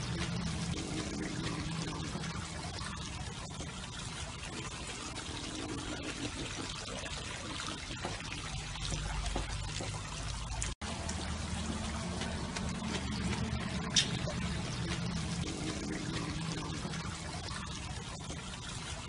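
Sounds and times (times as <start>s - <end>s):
running splashing water: 0.0s - 19.0s.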